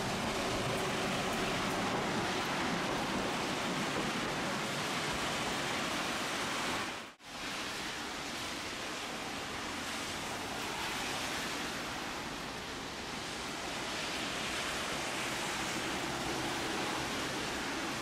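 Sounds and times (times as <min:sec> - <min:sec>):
heavy rain hiss: 0:00.0 - 0:18.0.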